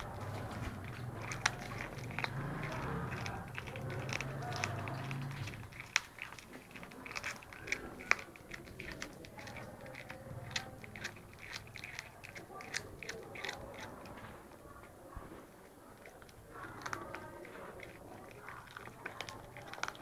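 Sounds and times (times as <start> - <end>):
bones cracking: 0.0 - 14.5, 15.9 - 20.0
cat chewing: 0.0 - 20.0.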